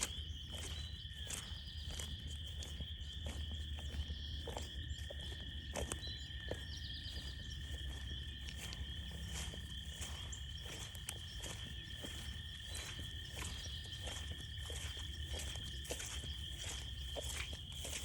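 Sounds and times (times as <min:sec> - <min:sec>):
footsteps crunching on trail: 0:00.0 - 0:18.0
frogs trilling: 0:00.0 - 0:18.0
lower steady frog band: 0:00.0 - 0:18.0.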